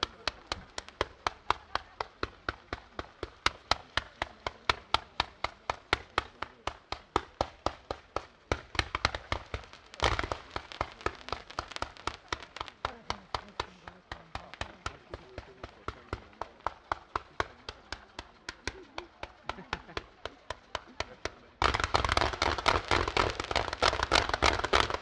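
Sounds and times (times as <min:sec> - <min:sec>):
fireworks banging in a barrage: 0:00.0 - 0:25.0.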